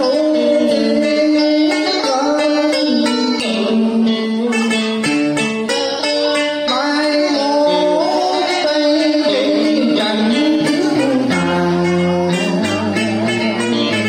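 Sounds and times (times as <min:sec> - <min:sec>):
person singing: 0:00.0 - 0:14.0
plucked string accompaniment: 0:00.0 - 0:14.0.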